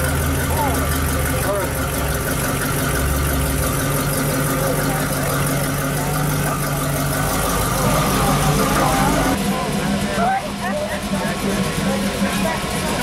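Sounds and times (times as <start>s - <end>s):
car engine idling: 0.0s - 13.0s
people chattering: 0.0s - 13.0s.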